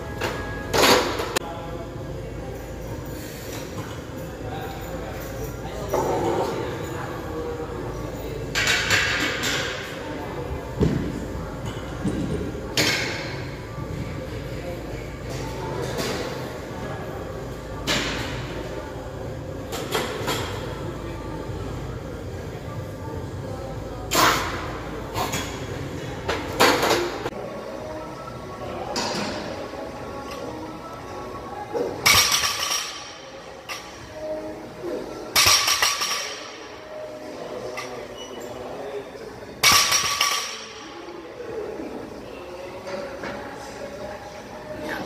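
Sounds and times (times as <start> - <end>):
gym background noise: 0.0 - 45.0.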